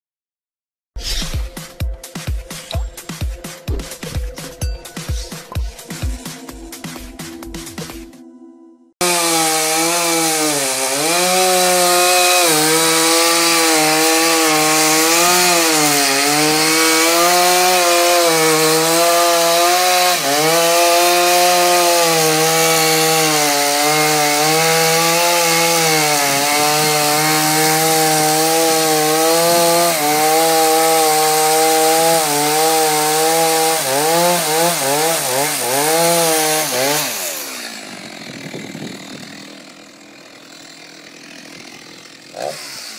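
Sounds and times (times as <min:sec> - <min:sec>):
chainsaw cutting wood: 0:01.1 - 0:08.0, 0:09.0 - 0:42.9.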